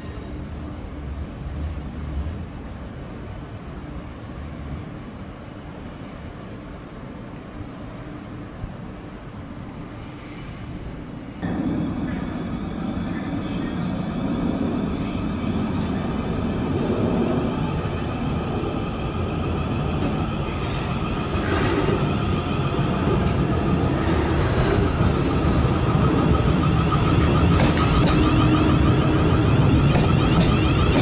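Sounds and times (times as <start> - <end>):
electric train rumbling slowly: 0.0 - 31.0.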